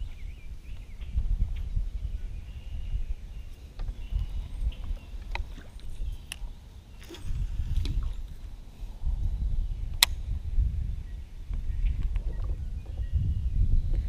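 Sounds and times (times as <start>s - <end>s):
low rumble of wind and water: 0.0s - 14.0s.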